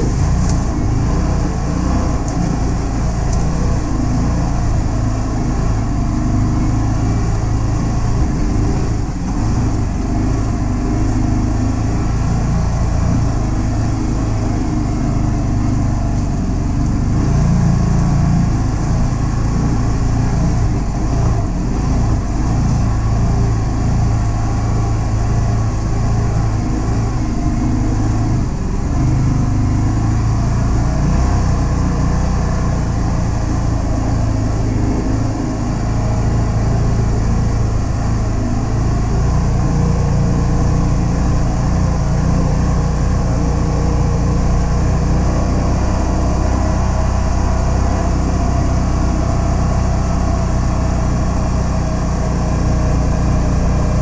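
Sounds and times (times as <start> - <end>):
utility vehicle engine running: 0.0 - 54.0.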